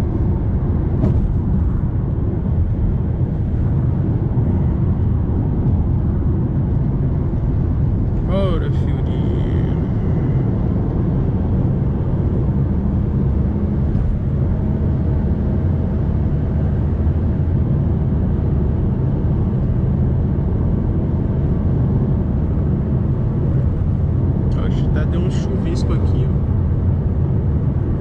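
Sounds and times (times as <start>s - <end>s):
car engine and road noise drone: 0.0s - 28.0s.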